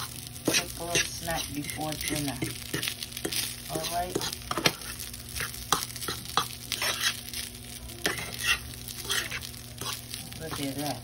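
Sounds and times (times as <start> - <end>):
fork scraping a frying pan: 0.0 - 10.8
rice sizzling: 0.0 - 11.0.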